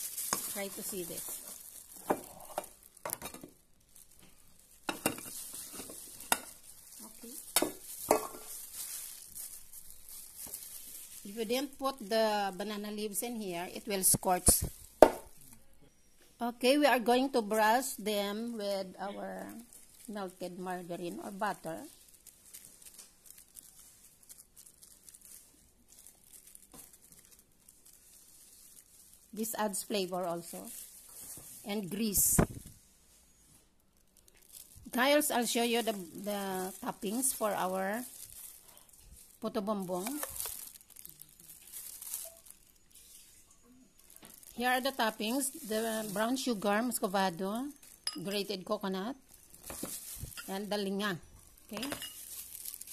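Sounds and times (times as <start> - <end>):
pastry brush rustling and dabbing: 3.9 - 15.1, 19.5 - 33.5, 34.4 - 52.9.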